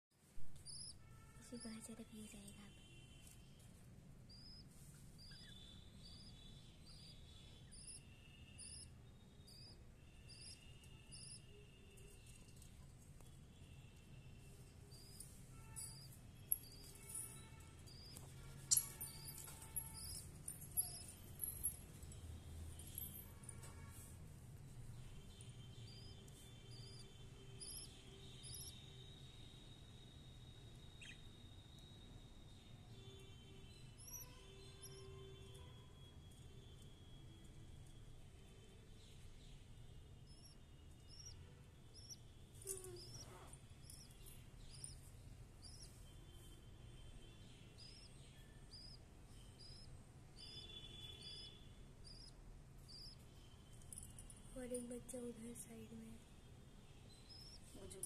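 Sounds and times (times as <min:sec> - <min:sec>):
faint high chirps: 0:00.4 - 0:24.2, 0:24.9 - 0:58.0.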